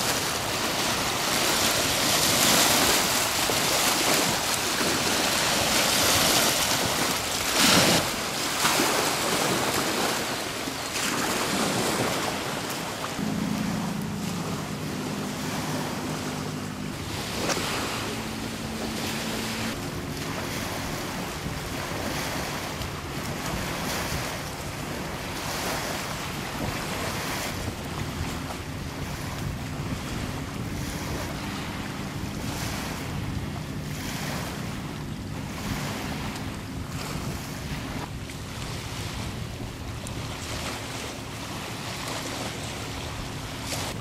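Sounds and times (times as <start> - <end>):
waves breaking on shore: 0.0 - 44.0
wind buffeting microphone: 0.0 - 44.0.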